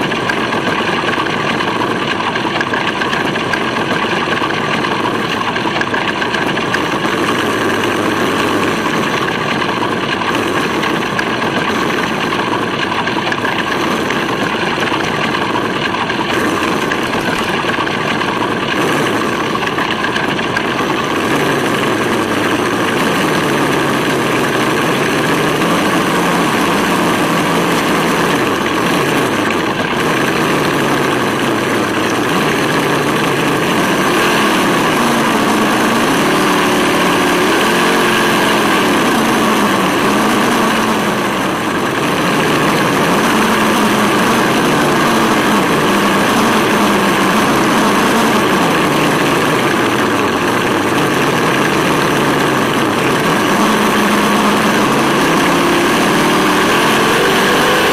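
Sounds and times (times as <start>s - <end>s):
simulated engine sound from speaker: 0.0s - 57.9s.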